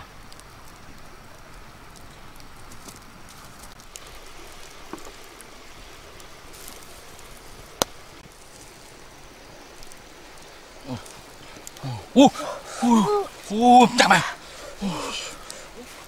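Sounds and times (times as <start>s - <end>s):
fire pops: 0.0s - 16.0s
wood fire crackling: 0.0s - 16.0s.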